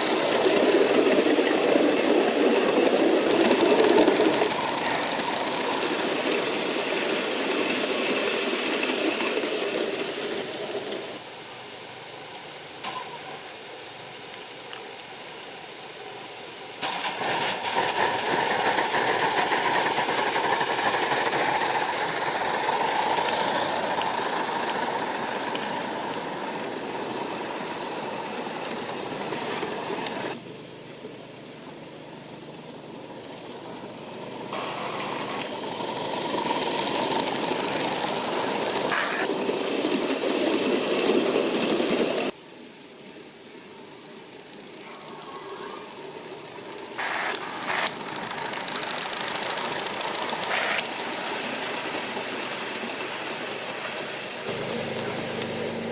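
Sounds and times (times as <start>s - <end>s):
steam hiss: 0.0s - 55.9s
steam locomotive engine noise: 0.0s - 55.9s.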